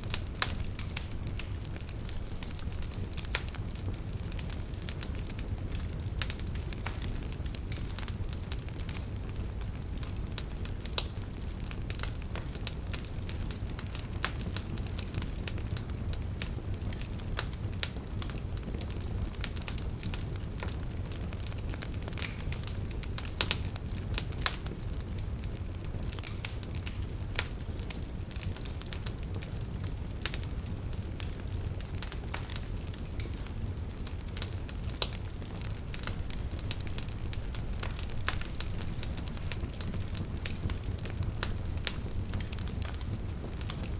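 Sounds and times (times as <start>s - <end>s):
burning wood crackles and pops: 0.0s - 43.9s
flames rumbling: 0.0s - 43.9s.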